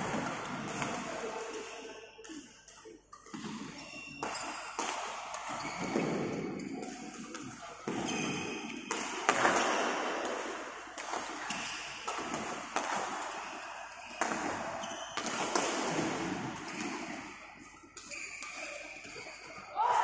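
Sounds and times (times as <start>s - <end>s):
rackets striking shuttlecock: 0.1s - 19.6s.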